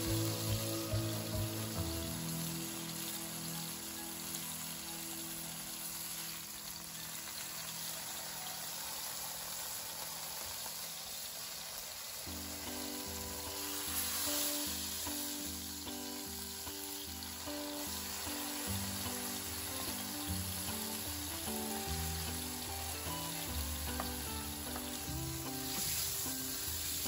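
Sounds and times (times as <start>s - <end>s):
beef sizzling in a frying pan: 0.0s - 27.0s.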